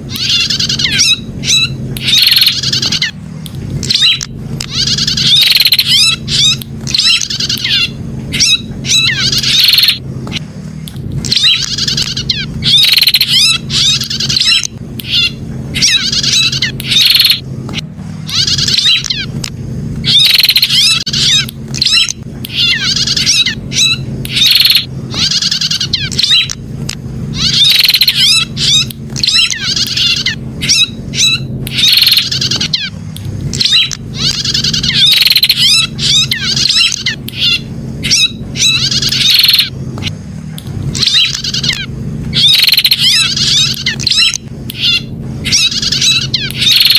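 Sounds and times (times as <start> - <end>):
prinia high chirping calls: 0.0 - 3.2, 3.8 - 10.4, 11.2 - 17.4, 18.2 - 19.3, 20.0 - 26.6, 27.3 - 39.8, 40.9 - 46.9
steady low hum: 0.0 - 46.9.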